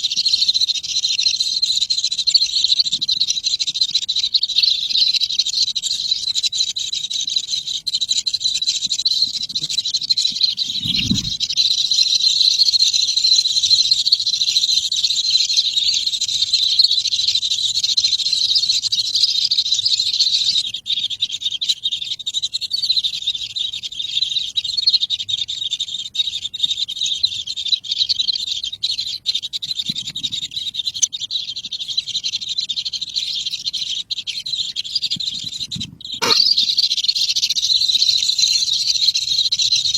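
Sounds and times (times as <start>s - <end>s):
baby birds chirping: 0.0s - 39.9s.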